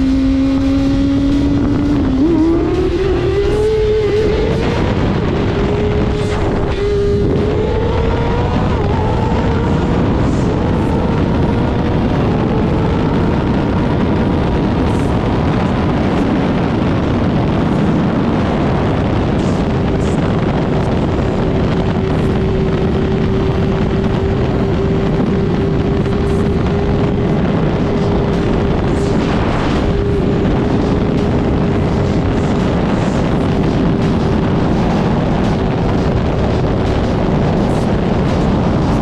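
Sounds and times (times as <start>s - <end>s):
motorcycle engine cruising: 0.0s - 39.0s
wind rush on microphone: 0.0s - 39.0s.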